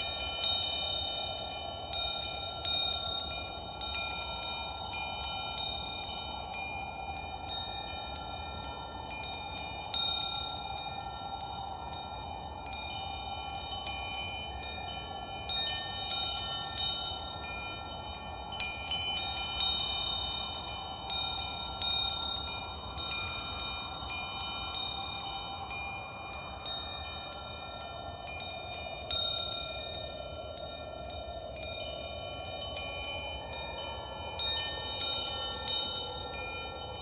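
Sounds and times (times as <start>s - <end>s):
metal wind chimes ringing: 0.0s - 37.0s.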